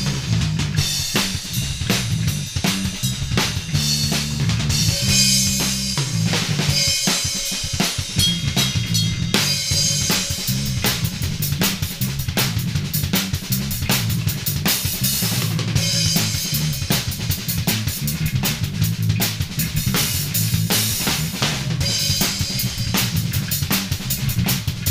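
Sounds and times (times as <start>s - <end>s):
bass guitar line: 0.0s - 24.9s
drum kit playing funk: 0.0s - 24.9s.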